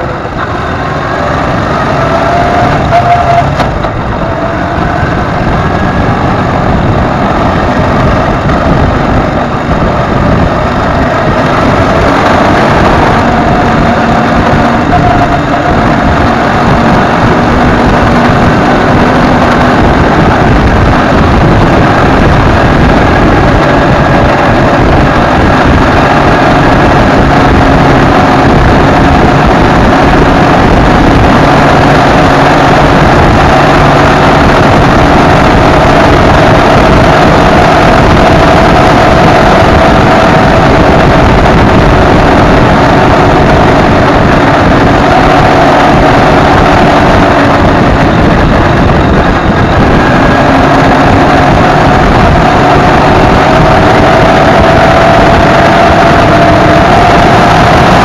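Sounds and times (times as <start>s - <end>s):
motorcycle engine at full throttle: 0.0s - 58.0s
wind noise on microphone: 0.0s - 58.0s.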